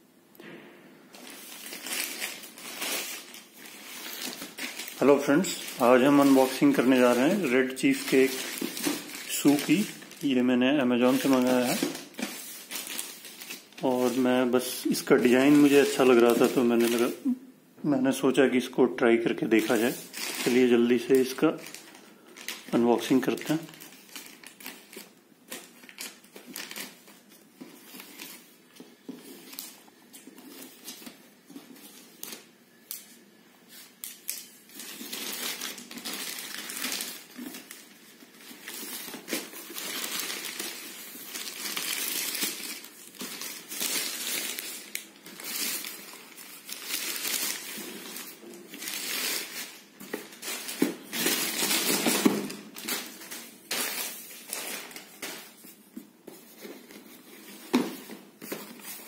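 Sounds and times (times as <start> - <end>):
plastic bag crinkling: 1.2 - 17.4, 19.6 - 28.8, 33.7 - 55.8.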